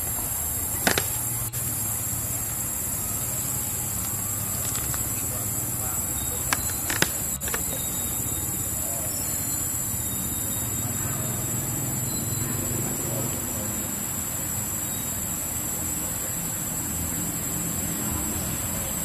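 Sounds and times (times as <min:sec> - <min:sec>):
high-pitched insect drone: 0:00.0 - 0:19.0
low traffic rumble: 0:00.0 - 0:19.0.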